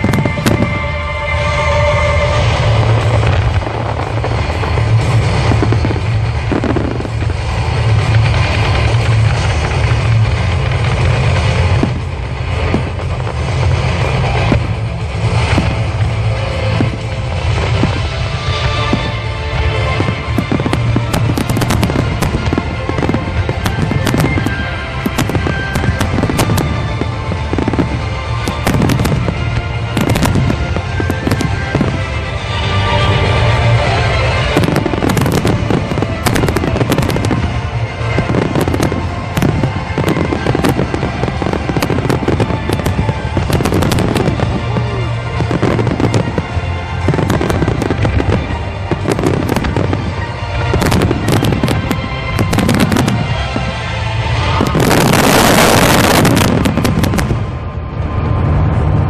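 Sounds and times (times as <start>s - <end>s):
fireworks bursting and crackling: 0.0s - 59.0s
loud music: 0.0s - 59.0s.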